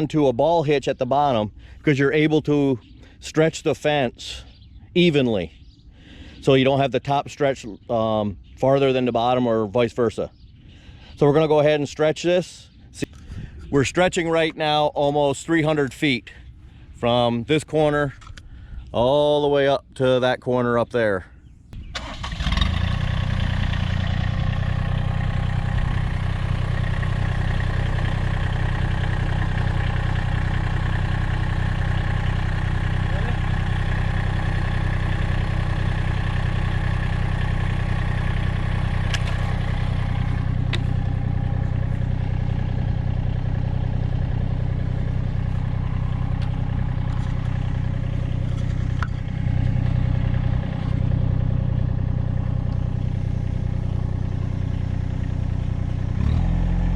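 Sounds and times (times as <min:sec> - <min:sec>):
tractor diesel engine running: 0:00.0 - 0:20.4, 0:21.8 - 0:56.9.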